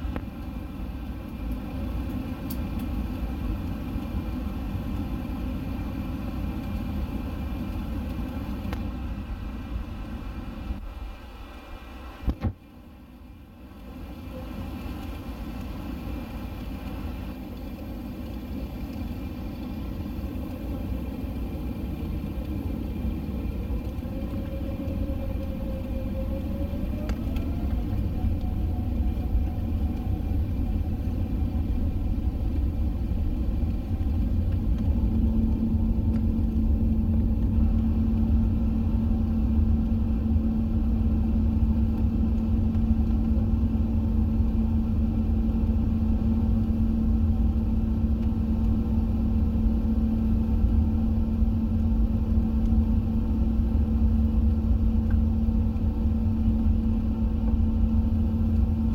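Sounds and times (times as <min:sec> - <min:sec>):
jet engines rumbling: 0:00.0 - 0:58.9
steady hum: 0:00.0 - 0:58.9.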